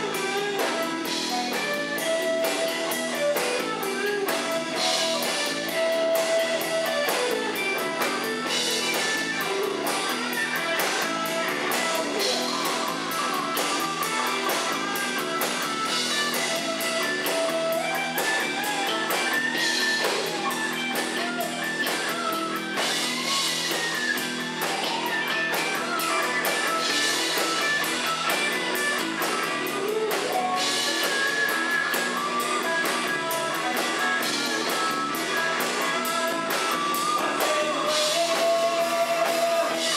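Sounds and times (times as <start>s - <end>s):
bass guitar: 0.0s - 39.9s
drum kit: 0.0s - 39.9s
electric guitar lead with bent notes: 0.0s - 39.9s.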